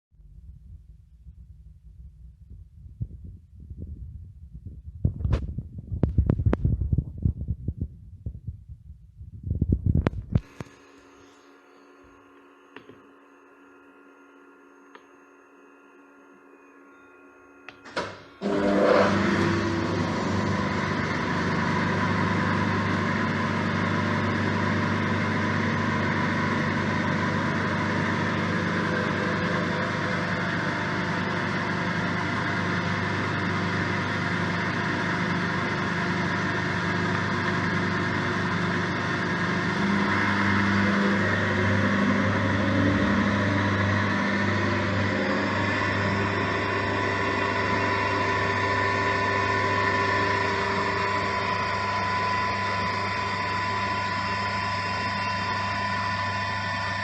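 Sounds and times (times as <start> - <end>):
milling machine humming and whining: 9.8 - 57.0.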